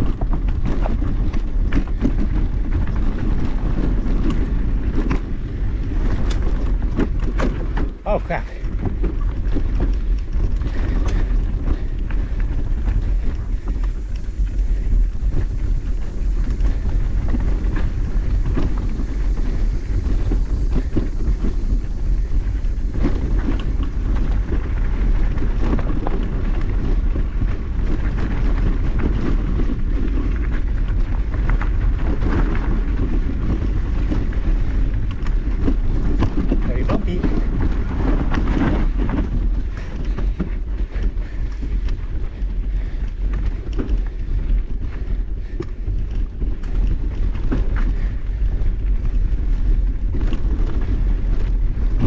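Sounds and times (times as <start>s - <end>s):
bike rattling over rocks: 0.0s - 52.0s
wind on microphone: 0.0s - 52.0s.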